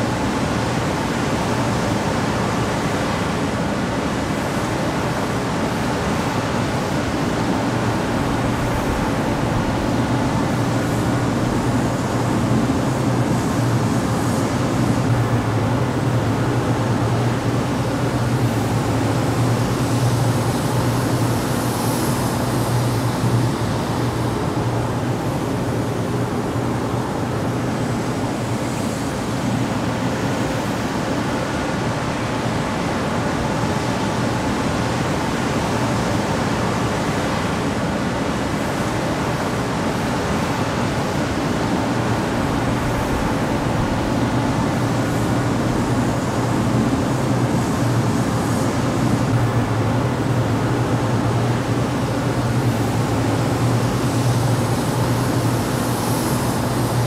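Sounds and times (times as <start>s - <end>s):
constant low hum: 0.0s - 57.0s
exhaust fan air rush: 0.0s - 57.0s.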